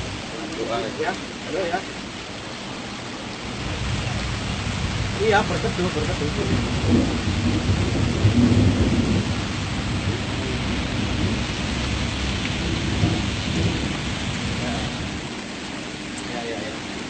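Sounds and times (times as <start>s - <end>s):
constant low rumble: 0.0s - 17.0s
heavy rain pouring: 0.0s - 17.0s.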